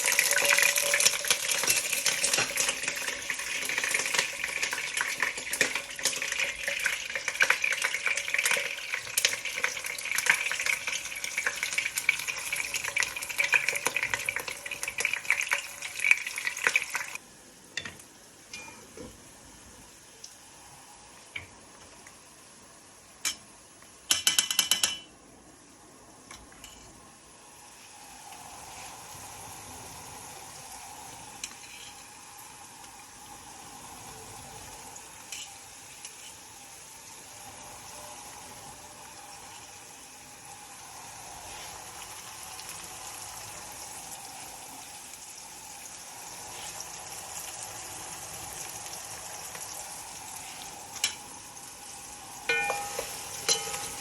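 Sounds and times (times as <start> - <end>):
food sizzling in a pan: 0.0 - 24.5, 25.4 - 54.0.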